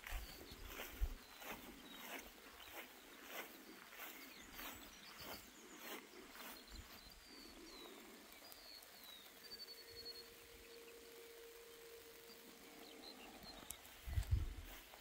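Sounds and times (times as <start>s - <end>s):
faint footsteps walking: 0.0s - 9.4s, 12.1s - 15.0s
faint high bird chirps: 0.0s - 15.0s.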